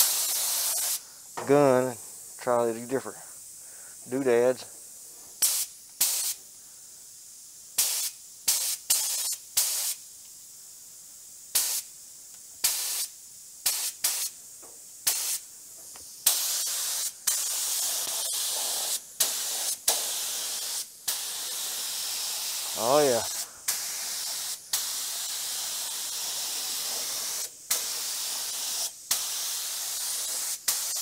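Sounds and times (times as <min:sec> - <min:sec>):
paint spray gun hissing: 0:00.0 - 0:01.9, 0:04.9 - 0:06.5, 0:07.4 - 0:10.4, 0:11.4 - 0:31.0.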